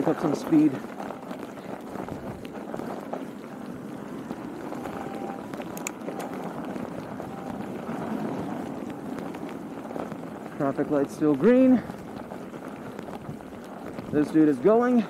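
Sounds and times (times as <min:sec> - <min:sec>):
bicycle tyres crunching on snow: 0:00.0 - 0:15.0.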